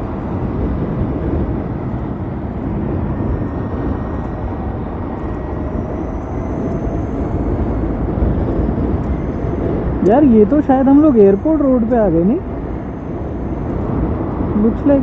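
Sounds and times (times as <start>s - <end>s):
faint high whine: 0.0s - 15.0s
road and traffic noise: 0.0s - 15.0s
wind buffeting microphone: 0.0s - 15.0s.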